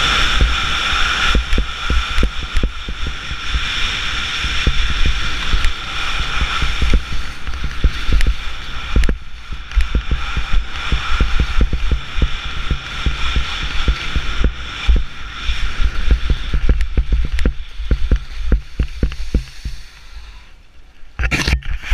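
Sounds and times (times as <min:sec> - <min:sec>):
wind buffeting microphone: 0:00.0 - 0:20.0
skis hissing on snow: 0:00.0 - 0:20.6.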